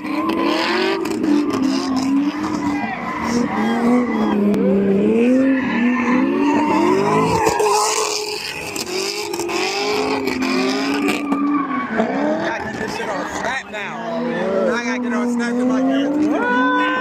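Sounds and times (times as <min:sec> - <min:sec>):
car engine: 0:00.0 - 0:17.0
tires squealing: 0:00.0 - 0:17.0.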